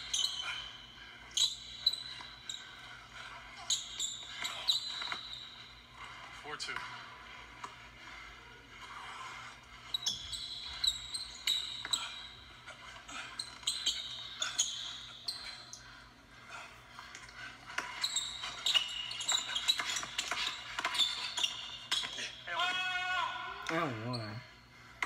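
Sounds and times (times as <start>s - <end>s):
sneakers squeaking: 0.0s - 22.5s.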